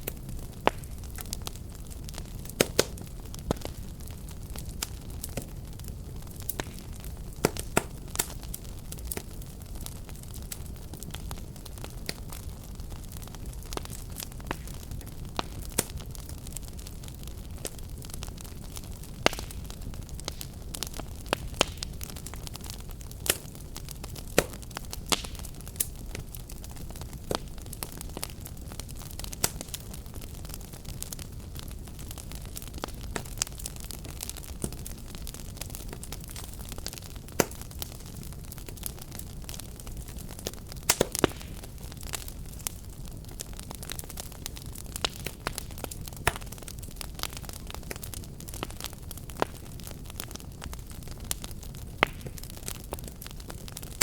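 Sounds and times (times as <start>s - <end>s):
fire crackling and popping: 0.0s - 54.0s
fireplace fire rumbling: 0.0s - 54.0s.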